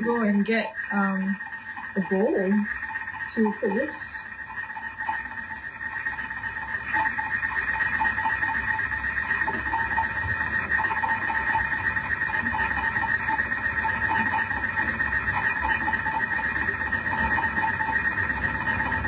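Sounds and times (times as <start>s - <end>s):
cooking machine motor whirring: 0.0s - 19.0s.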